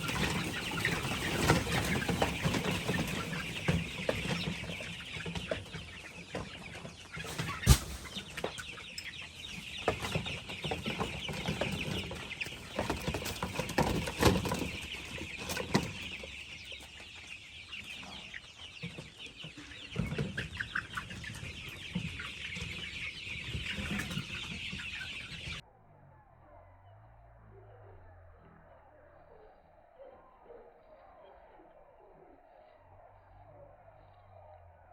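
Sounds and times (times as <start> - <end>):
chickens clucking: 0.0 - 25.6, 29.2 - 34.9.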